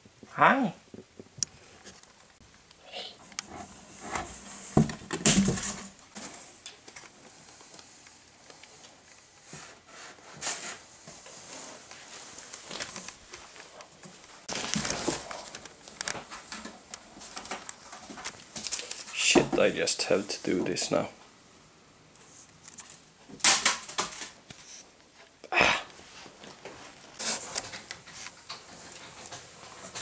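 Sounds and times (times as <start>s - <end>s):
rustling: 3.2s - 20.2s, 22.2s - 30.0s.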